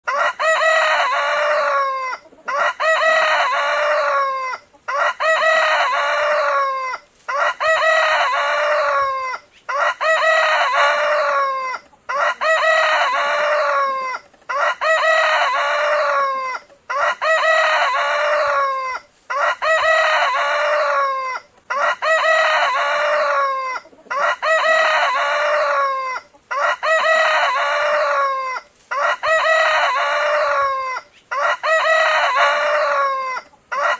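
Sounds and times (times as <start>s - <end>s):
rooster crowing: 0.1s - 33.9s.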